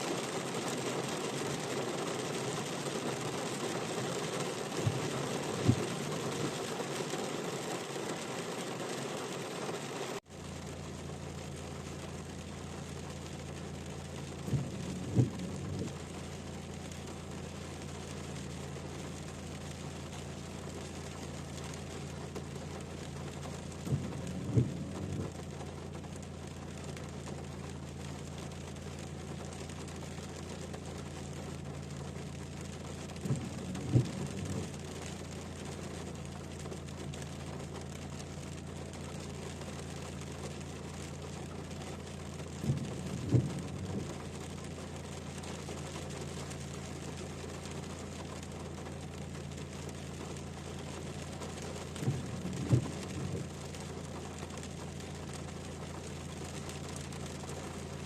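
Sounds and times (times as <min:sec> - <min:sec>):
steady rain: 0:00.0 - 0:58.0
low even hum: 0:10.5 - 0:58.0.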